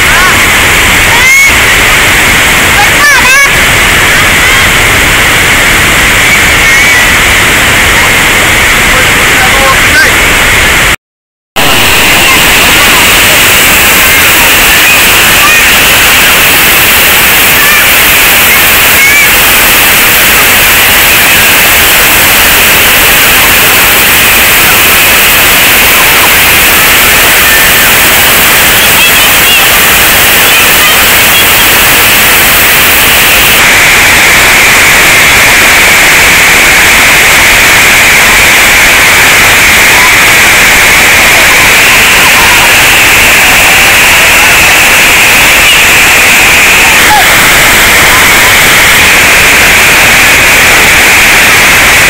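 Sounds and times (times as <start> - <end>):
water rushing over a dam: 0.0 - 10.9, 11.6 - 52.0.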